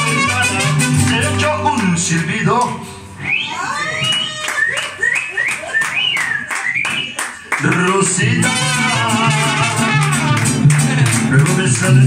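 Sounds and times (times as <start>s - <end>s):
mariachi band playing: 0.0s - 12.0s.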